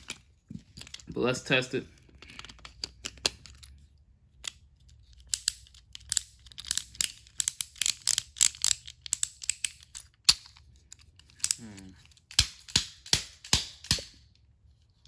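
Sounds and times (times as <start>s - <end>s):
plastic toy clicks and rattles: 0.0s - 1.2s, 2.1s - 14.0s.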